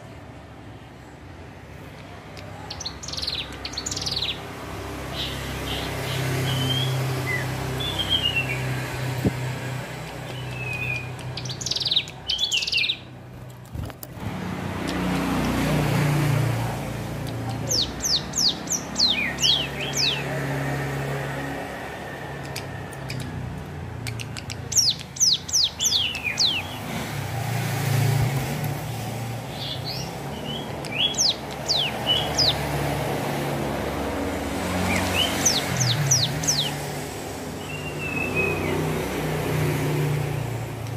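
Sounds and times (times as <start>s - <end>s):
low traffic rumble: 0.0s - 40.9s.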